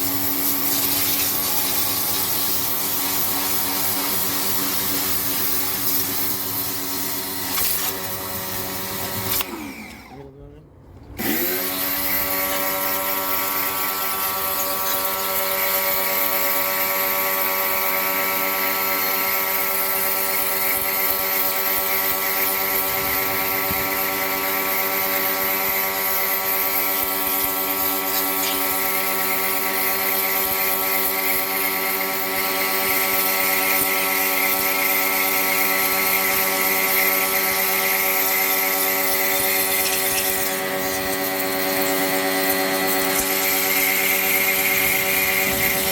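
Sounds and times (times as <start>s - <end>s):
electric machine whining: 0.0s - 45.9s.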